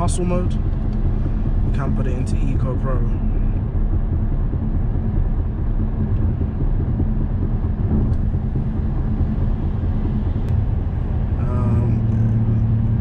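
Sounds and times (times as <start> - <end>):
diesel engine droning: 0.0 - 13.0
tyre and road rumble: 0.0 - 13.0.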